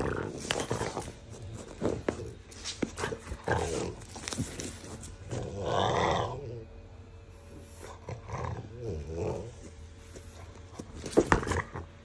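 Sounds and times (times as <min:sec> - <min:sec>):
dog growling: 0:00.0 - 0:06.7, 0:07.5 - 0:12.0.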